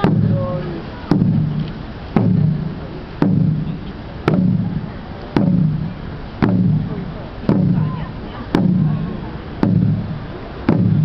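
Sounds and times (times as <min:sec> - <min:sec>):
large drum beating: 0:00.0 - 0:11.0.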